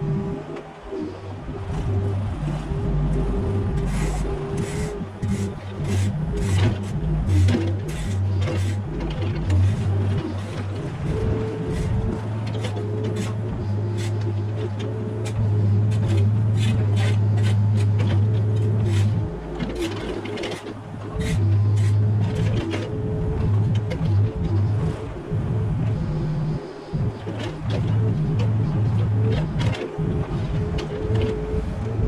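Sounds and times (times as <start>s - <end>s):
excavator engine under load: 0.0s - 32.0s.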